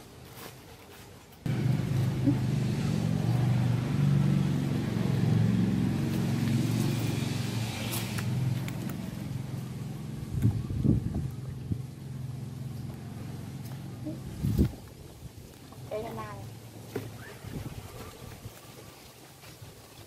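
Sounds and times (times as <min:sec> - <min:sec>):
engine running: 0:01.5 - 0:18.4.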